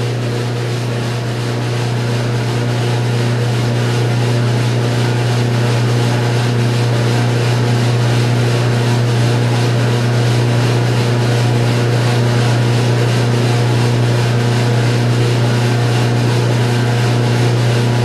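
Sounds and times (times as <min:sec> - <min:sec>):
coffee roaster drone: 0:00.0 - 0:18.0.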